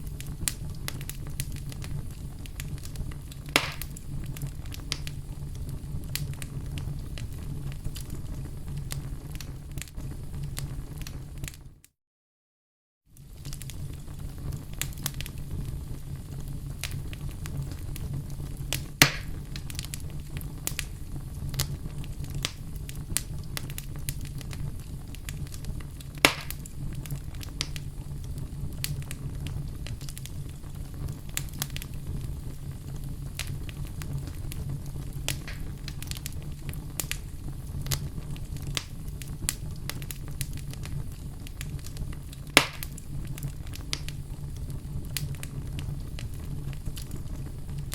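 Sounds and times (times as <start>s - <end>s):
loud fire pops: 0.0s - 11.6s, 13.2s - 47.9s
wood fire crackling: 0.0s - 11.8s, 13.1s - 47.9s.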